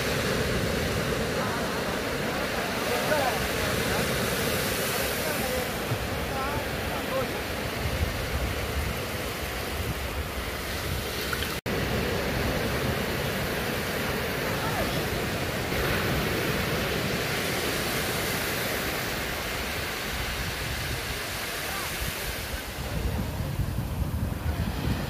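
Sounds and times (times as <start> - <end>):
surf washing on beach: 0.0 - 25.0
wind buffeting microphone: 0.0 - 25.0.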